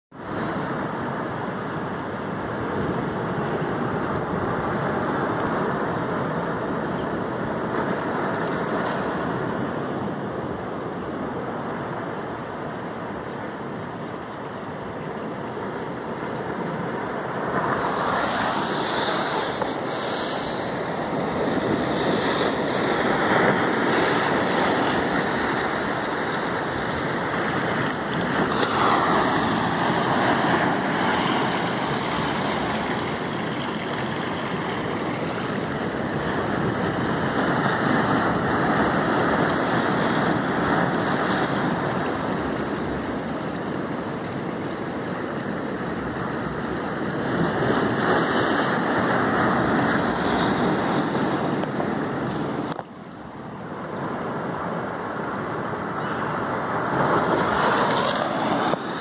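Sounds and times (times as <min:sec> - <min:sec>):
waves washing on shore: 0:00.1 - 0:59.0.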